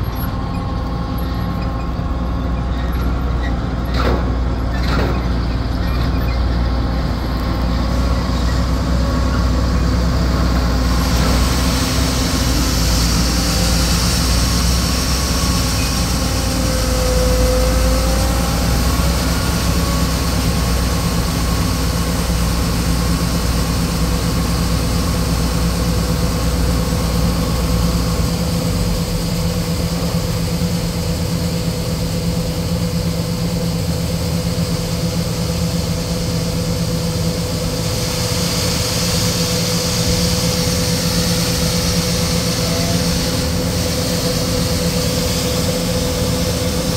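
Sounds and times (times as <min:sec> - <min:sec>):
combine harvester running: 0:00.0 - 0:46.9
truck engine running: 0:00.0 - 0:46.9.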